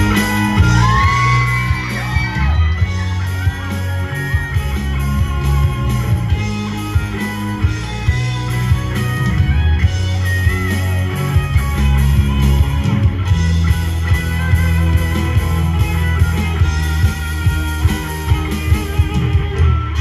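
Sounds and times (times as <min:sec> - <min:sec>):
bass guitar: 0:00.0 - 0:20.0
electric guitars: 0:00.0 - 0:20.0
keyboard: 0:00.0 - 0:20.0
steady drum beat: 0:00.0 - 0:20.0.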